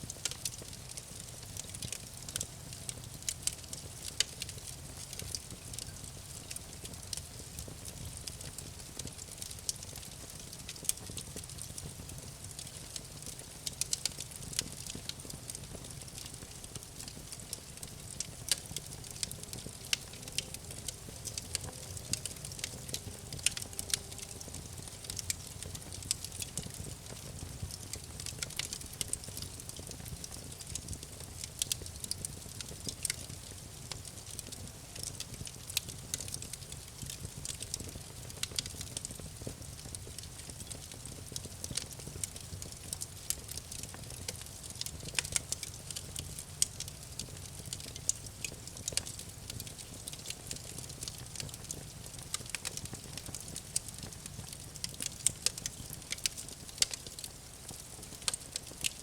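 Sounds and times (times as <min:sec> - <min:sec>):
campfire wood crackling: 0:00.0 - 0:59.0
low fire rumble: 0:00.0 - 0:59.0.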